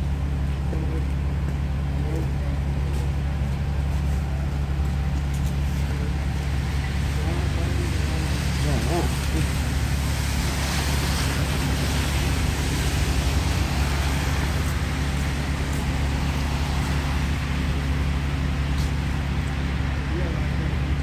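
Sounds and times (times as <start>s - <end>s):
bus engine idling: 0.0s - 21.0s.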